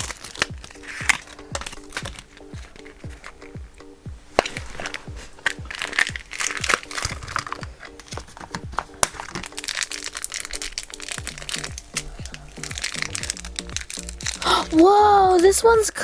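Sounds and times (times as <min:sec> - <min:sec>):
background music with steady beat: 0:00.0 - 0:16.0
plastic bag crinkling and tearing: 0:00.0 - 0:16.0.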